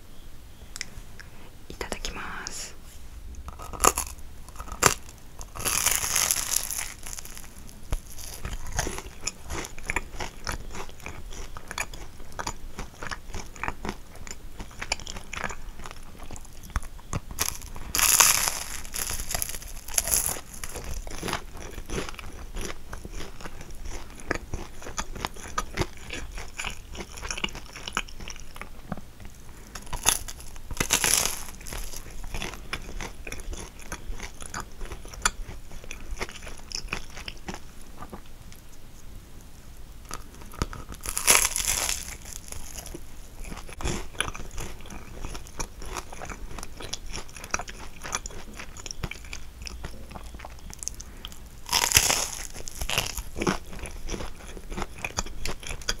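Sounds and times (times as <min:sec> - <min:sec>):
crunchy pastry bites: 0:03.4 - 0:38.2, 0:40.1 - 0:56.0
chewing with mouth clicks: 0:03.4 - 0:39.1, 0:40.1 - 0:56.0.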